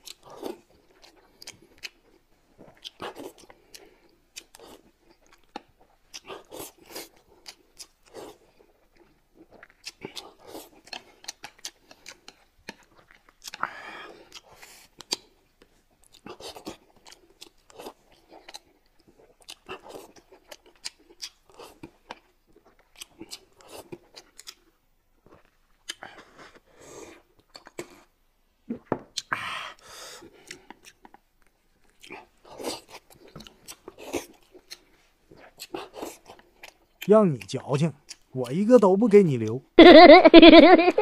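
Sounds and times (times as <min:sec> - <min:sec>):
wet chewing and smacking: 0:00.0 - 0:28.2, 0:29.1 - 0:29.3, 0:30.1 - 0:38.4.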